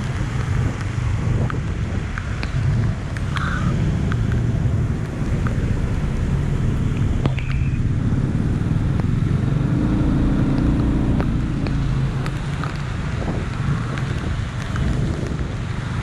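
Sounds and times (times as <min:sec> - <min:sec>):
rain hiss: 0:00.0 - 0:16.0
vehicle engines rumbling: 0:00.0 - 0:16.0.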